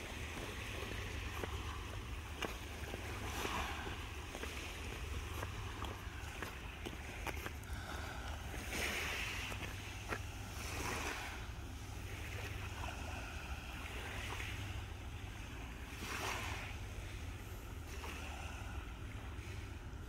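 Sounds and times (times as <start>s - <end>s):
low steady rumble: 0.0s - 20.0s
small waves washing ashore: 0.0s - 20.0s.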